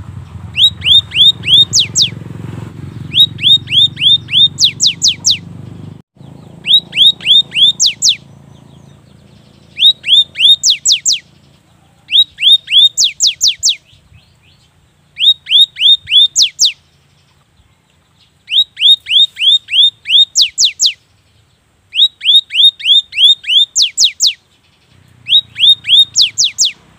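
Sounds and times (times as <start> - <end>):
bird whistling rapid song: 0.5 - 2.2, 2.9 - 5.6, 6.2 - 17.3, 18.2 - 26.9.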